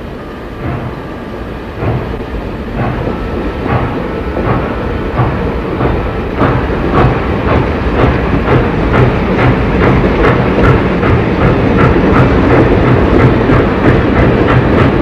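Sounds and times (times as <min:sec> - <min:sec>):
steam locomotive rhythmic beat: 0:00.0 - 0:15.0.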